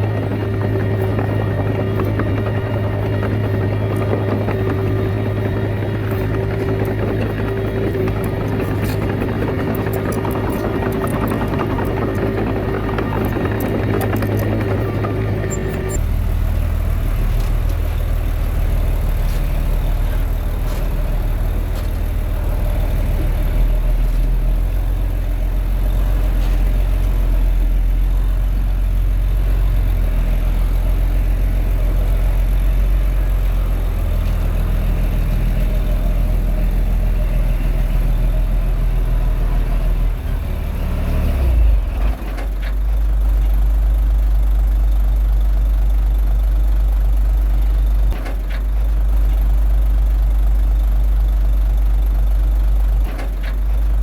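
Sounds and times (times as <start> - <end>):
bulldozer diesel engine drone: 0.0 - 54.0.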